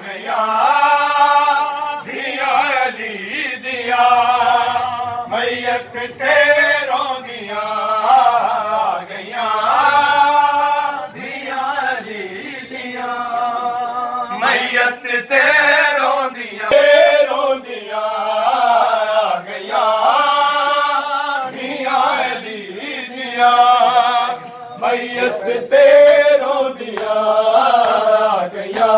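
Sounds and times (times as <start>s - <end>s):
men chanting a lament: 0.0s - 28.9s.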